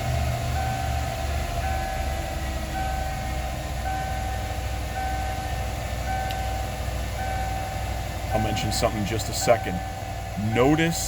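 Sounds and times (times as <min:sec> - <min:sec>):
truck engine idling: 0:00.0 - 0:11.0
dashboard warning chime: 0:00.4 - 0:11.0.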